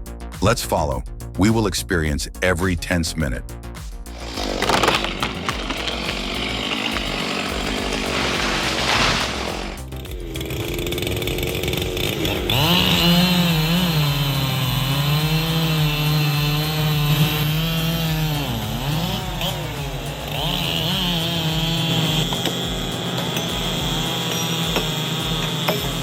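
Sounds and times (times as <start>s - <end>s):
chainsaw cutting wood: 4.1s - 26.0s.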